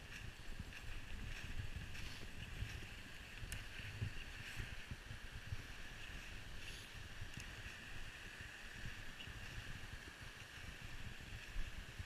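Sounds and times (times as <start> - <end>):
flowing creek: 0.0 - 12.0
wind buffeting microphone: 0.0 - 12.0.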